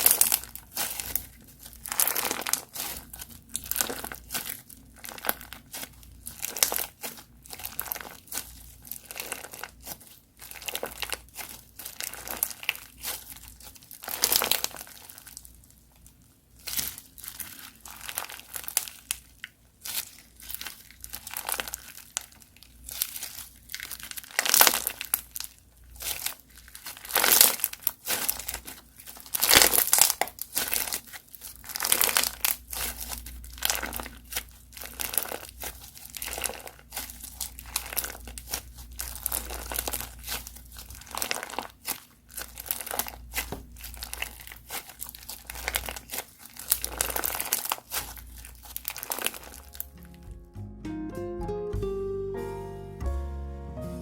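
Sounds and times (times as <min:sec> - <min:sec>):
crunchy slime crackling: 0:00.0 - 0:50.2.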